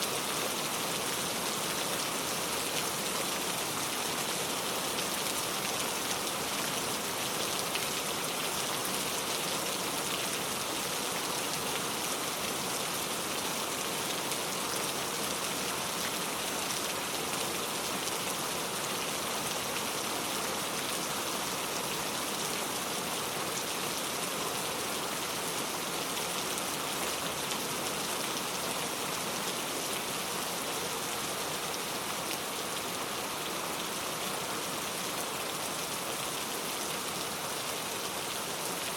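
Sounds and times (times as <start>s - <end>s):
heavy rain on a road: 0.0s - 38.9s.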